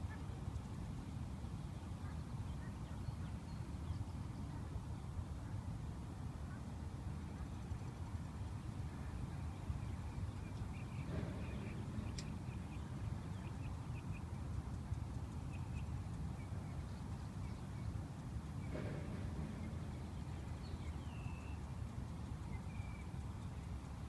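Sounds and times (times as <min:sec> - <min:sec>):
wind rumble on microphone: 0:00.0 - 0:24.0.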